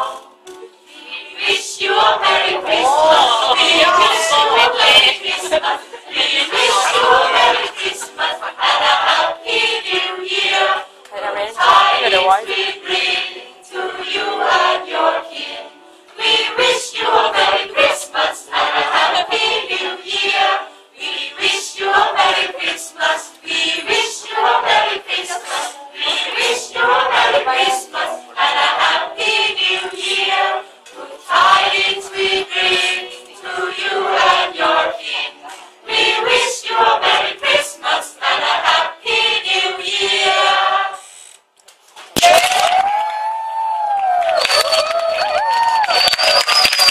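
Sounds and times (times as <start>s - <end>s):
mixed choir singing: 0.0s - 41.1s.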